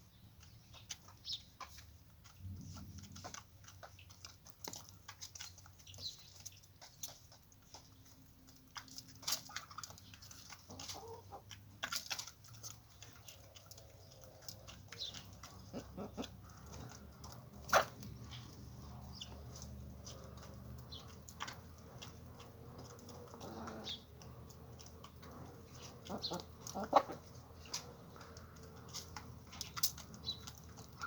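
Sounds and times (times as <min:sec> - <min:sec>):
chickens clucking: 0:00.4 - 0:31.0
small scattered clicks: 0:00.4 - 0:31.0.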